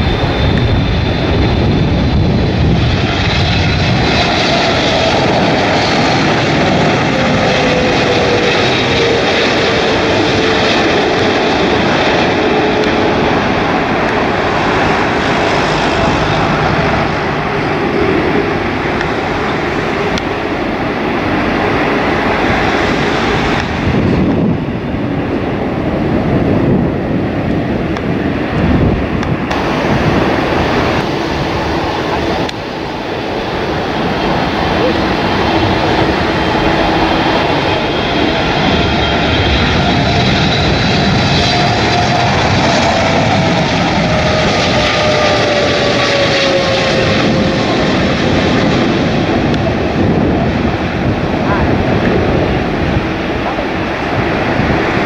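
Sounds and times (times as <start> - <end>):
gusty wind buffeting microphone: 0.0 - 55.0
jet engine noise: 0.0 - 55.0.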